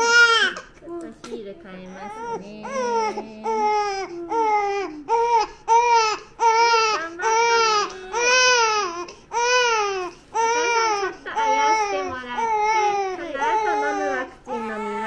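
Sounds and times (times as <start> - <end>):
baby crying: 0.0 - 0.8, 2.0 - 15.0.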